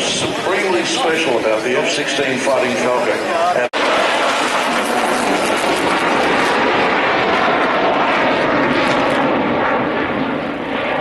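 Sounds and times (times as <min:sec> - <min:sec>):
jet engine passing: 0:00.0 - 0:11.0.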